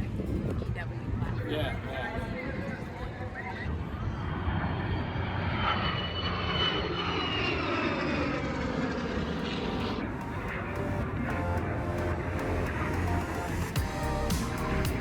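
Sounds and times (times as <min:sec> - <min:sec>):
aircraft engine flying past: 0:00.0 - 0:15.0
high engine whine: 0:00.0 - 0:15.0.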